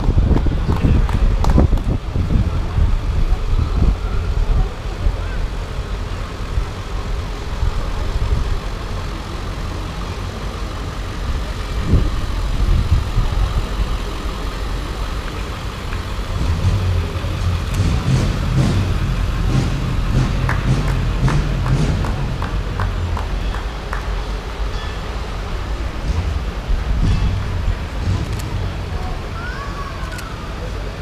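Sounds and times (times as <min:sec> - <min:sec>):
vehicle engines rumbling slowly: 0:00.0 - 0:31.0.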